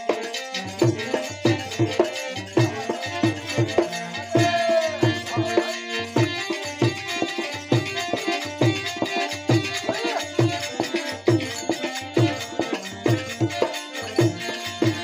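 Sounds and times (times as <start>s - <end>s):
dholak drum beat: 0.0s - 15.0s
harmonium melody: 0.0s - 15.0s.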